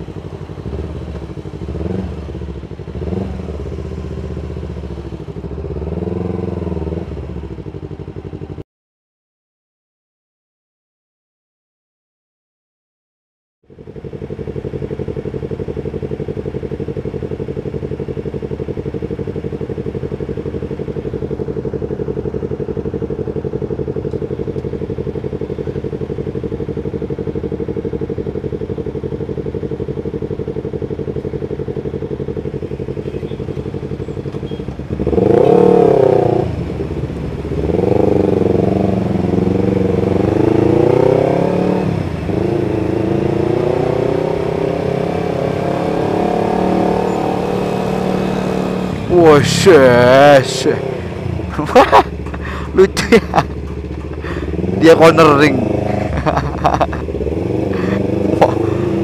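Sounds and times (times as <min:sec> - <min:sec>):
motorcycle engine idling and revving: 0:00.0 - 0:08.6, 0:13.6 - 0:59.0.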